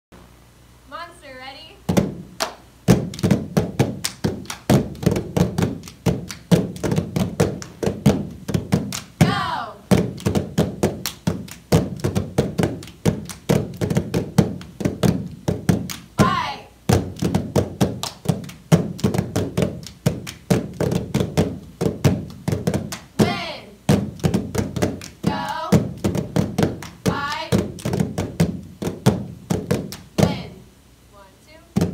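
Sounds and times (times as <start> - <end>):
people clapping hands: 2.4 - 9.4, 10.0 - 16.1, 17.0 - 23.4, 24.2 - 30.4.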